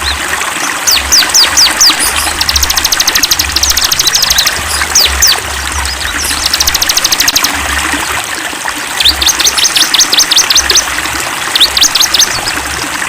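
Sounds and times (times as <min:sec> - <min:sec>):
songbirds trilling: 0:00.0 - 0:08.1, 0:09.0 - 0:12.7
stream flowing: 0:00.0 - 0:13.0.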